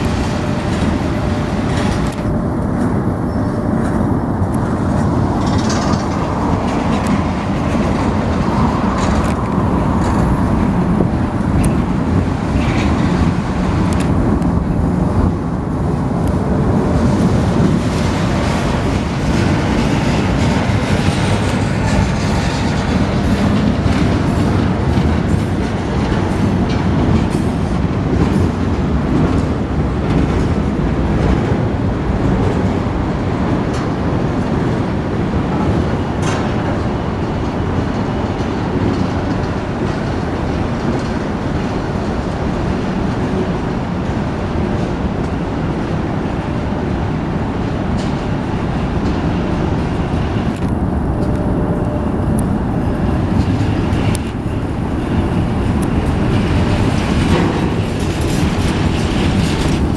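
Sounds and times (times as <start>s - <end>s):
freight train rumbling past: 0.0s - 59.9s
wheels clattering over rail joints: 0.0s - 59.9s.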